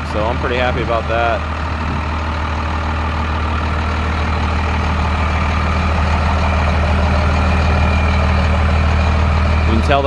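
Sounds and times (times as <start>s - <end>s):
diesel truck idling: 0.0s - 10.0s.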